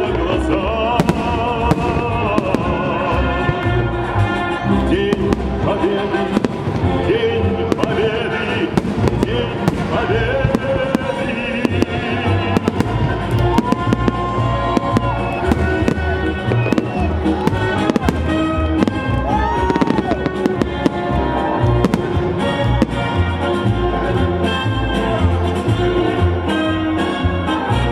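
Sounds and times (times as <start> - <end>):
fireworks banging: 0.0 - 24.7
loud music: 0.0 - 27.9.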